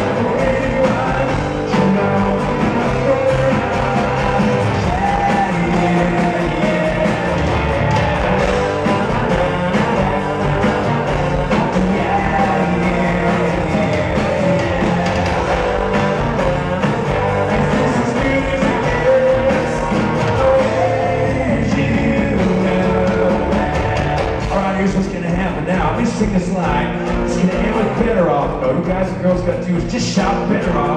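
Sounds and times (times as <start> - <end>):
person singing lead vocal: 0.0 - 30.9
strummed acoustic guitars: 0.0 - 30.9.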